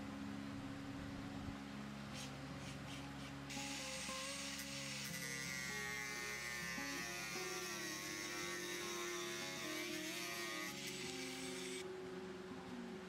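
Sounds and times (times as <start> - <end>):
droning background music: 0.0 - 13.0.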